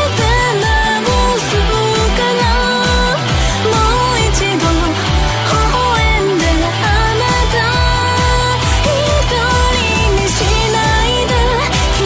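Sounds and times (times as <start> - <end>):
pop music with a steady beat: 0.0 - 12.0.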